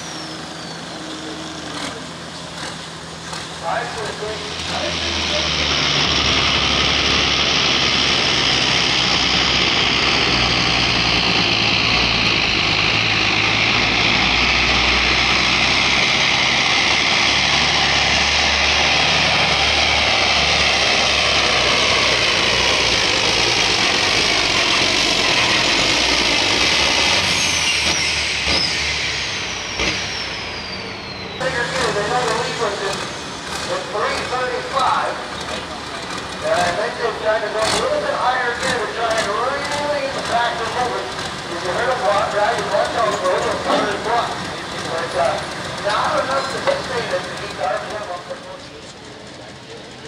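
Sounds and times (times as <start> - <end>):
high-pitched turbo whine: 0.0 - 48.8
diesel tractor engine under load: 0.0 - 50.0.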